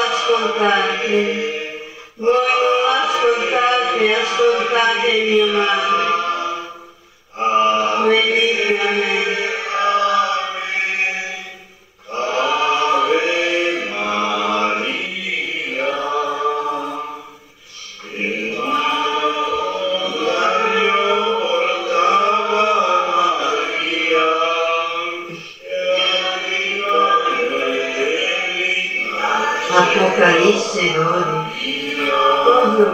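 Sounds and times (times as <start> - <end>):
choir singing a hymn: 0.0 - 32.9.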